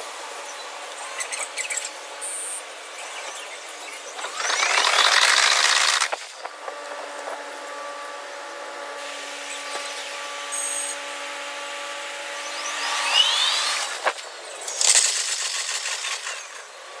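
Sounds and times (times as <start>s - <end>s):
linear motor whine: 0.0s - 17.0s
multi-tone hum: 0.0s - 17.0s.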